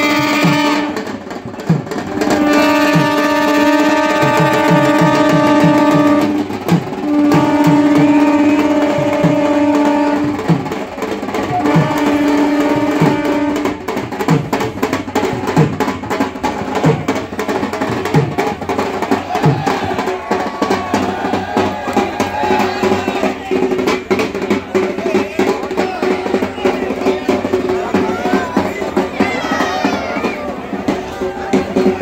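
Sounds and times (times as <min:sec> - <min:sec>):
drums beating: 0:00.0 - 0:32.0.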